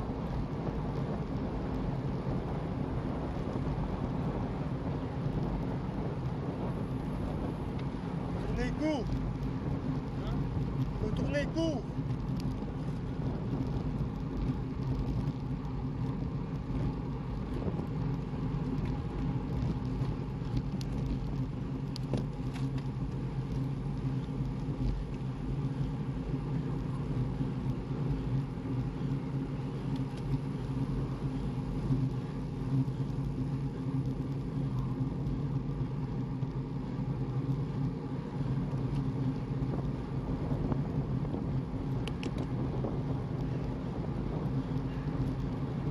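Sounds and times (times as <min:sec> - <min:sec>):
road and wind noise: 0:00.0 - 0:45.9
vehicle engine droning: 0:00.0 - 0:45.9.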